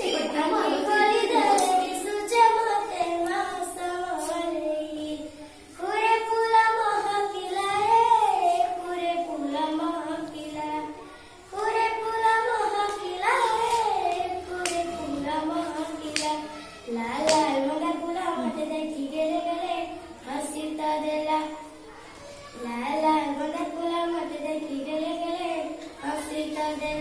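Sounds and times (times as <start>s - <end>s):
girl singing unaccompanied: 0.0s - 27.0s.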